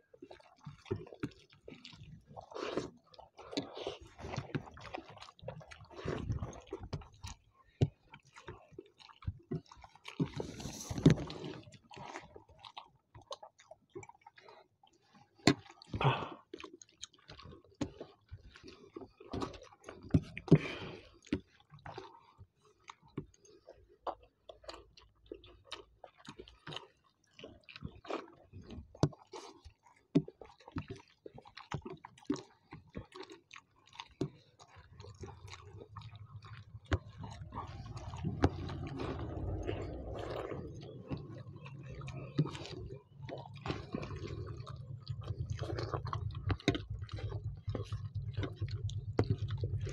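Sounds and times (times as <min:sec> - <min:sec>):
wet squishing of rice by hand: 0:00.0 - 0:49.9
chewing and lip smacking: 0:00.1 - 0:49.9.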